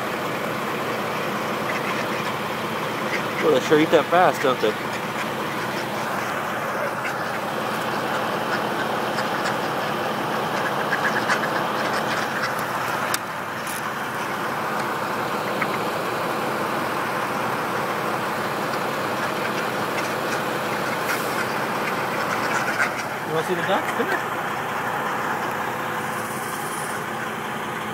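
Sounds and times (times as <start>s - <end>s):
ducks quacking: 0.0s - 27.9s
truck engine idling: 0.0s - 27.9s.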